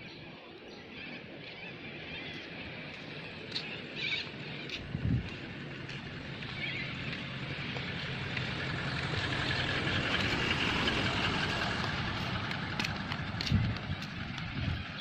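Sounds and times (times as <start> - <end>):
vehicle passing by: 2.5 - 15.0.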